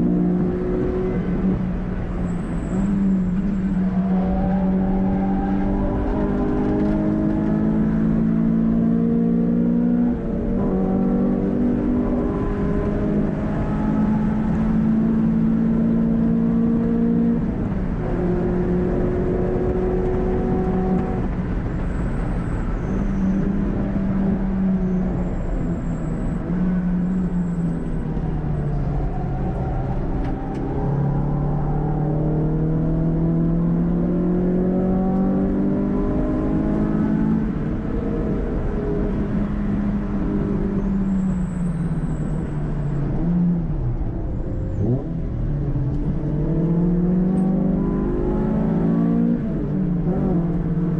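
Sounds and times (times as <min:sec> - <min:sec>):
car engine running hard: 0:00.0 - 0:50.9.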